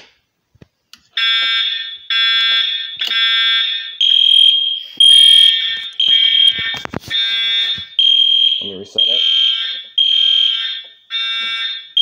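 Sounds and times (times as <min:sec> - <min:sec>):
high alarm beep: 0:01.2 - 0:12.0
pulsing electronic alarm horn: 0:01.2 - 0:12.0.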